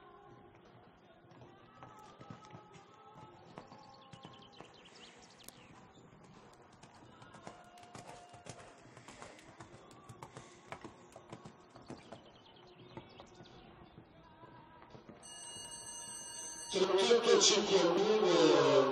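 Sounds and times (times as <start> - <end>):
hoofbeats of horse cantering on sand: 0.0 - 15.3.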